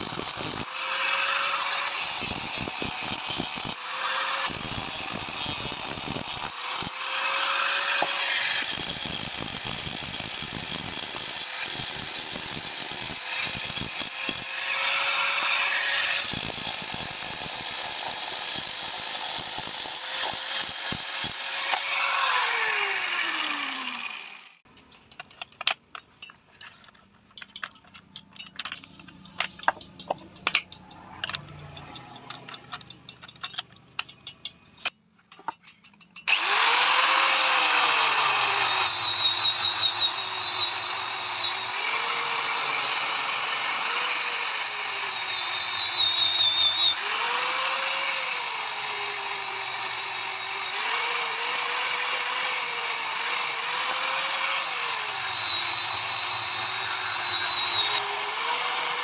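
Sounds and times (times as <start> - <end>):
power tool working metal: 0.0 - 24.6, 36.3 - 59.0.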